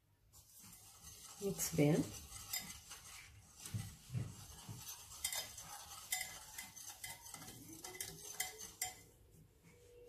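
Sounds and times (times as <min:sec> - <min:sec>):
whisk scraping in glass bowl: 0:00.3 - 0:09.3.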